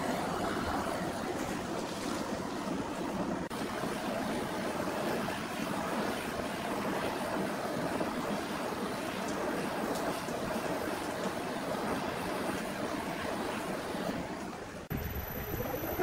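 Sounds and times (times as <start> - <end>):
blowtorch flame: 0.0 - 14.6.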